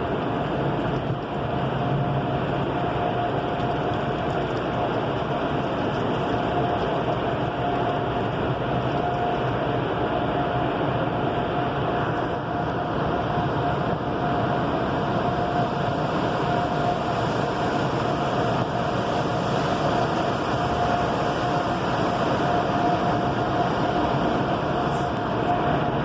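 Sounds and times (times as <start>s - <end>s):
car wash machinery rushing: 0.0s - 26.0s
constant machine whine: 0.0s - 26.0s.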